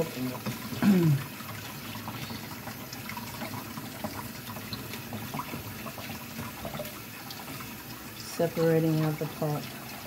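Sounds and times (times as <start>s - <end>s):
faucet water running into sink: 0.0s - 10.0s
small splashes and clicks: 0.0s - 10.0s.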